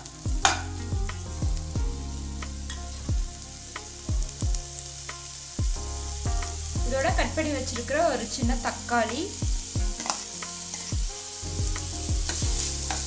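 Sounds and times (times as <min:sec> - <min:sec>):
background music with bass beat: 0:00.0 - 0:13.0
onions sizzling in oil: 0:00.0 - 0:13.0.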